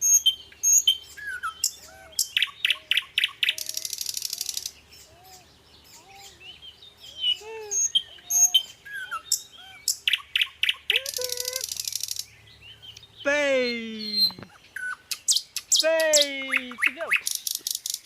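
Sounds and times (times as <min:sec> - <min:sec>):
bird trill: 0:00.0 - 0:18.0
birds chirping: 0:00.0 - 0:18.0.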